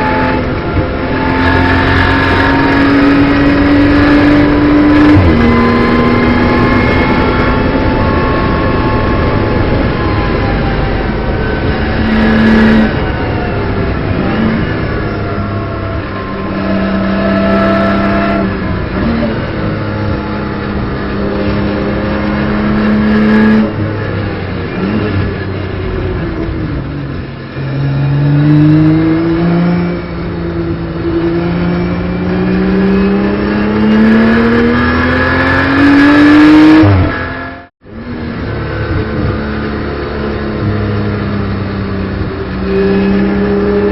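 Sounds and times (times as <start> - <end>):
racing car engine revving: 0.0 - 43.9.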